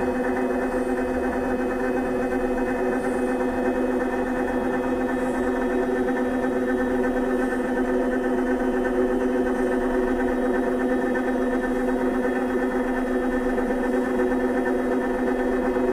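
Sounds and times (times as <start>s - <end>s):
machine humming with pitched tone: 0.0s - 15.9s.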